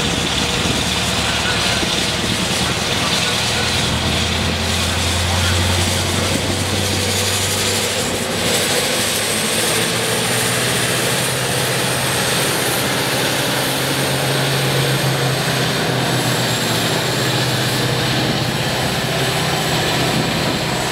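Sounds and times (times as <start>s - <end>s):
truck diesel engine droning: 0.0s - 20.9s.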